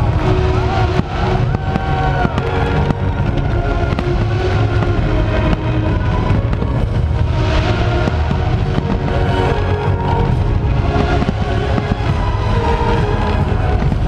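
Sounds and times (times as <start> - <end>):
fireworks bangs: 0.0 - 14.0
loud music with heavy bass: 0.0 - 14.0.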